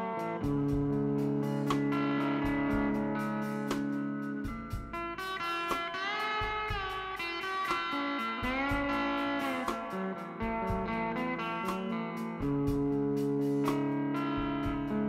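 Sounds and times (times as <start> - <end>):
guitar-led instrumental music: 0.0 - 15.0
steady beat: 0.0 - 15.0.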